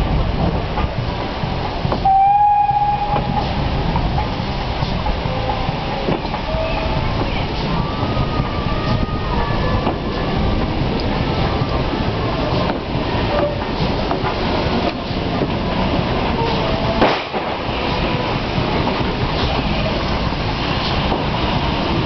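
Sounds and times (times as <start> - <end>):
rail clicks: 0.0 - 22.0
train rumbling on rails: 0.0 - 22.0.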